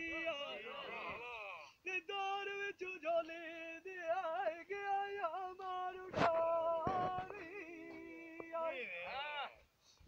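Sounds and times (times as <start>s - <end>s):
man singing unaccompanied: 0.0s - 1.2s, 1.8s - 9.1s.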